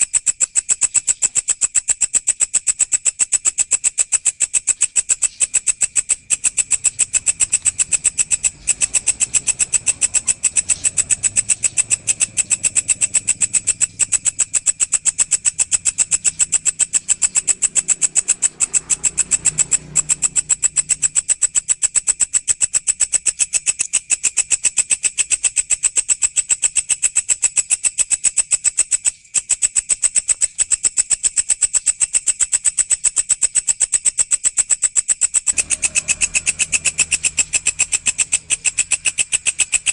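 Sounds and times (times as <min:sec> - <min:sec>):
grasshopper stridulating: 0:00.0 - 0:39.9.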